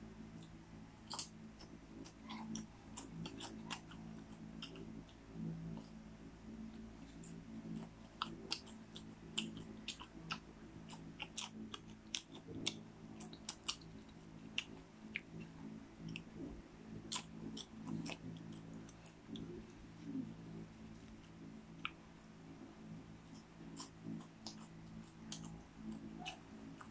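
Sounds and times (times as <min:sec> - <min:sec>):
popcorn crunching: 0:01.0 - 0:05.8, 0:07.0 - 0:20.2, 0:23.2 - 0:26.9.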